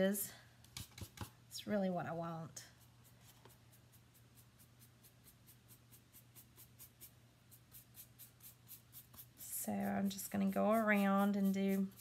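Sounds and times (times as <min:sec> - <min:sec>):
brush scratching on board: 0:00.8 - 0:01.4, 0:02.7 - 0:12.0.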